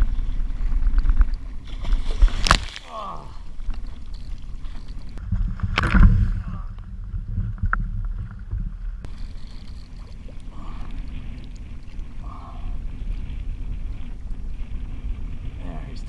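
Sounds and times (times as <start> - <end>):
water lapping against kayak hull: 0.0 - 15.6
wind rumble on microphone: 0.0 - 16.0.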